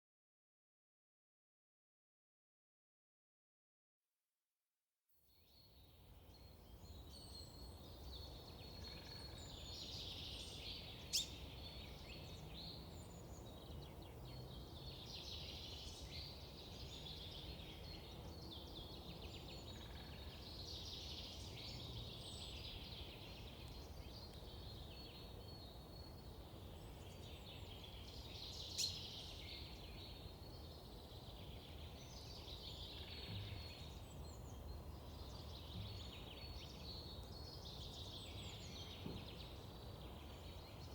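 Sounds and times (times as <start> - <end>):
songbirds chirping and twittering: 5.3 - 40.9.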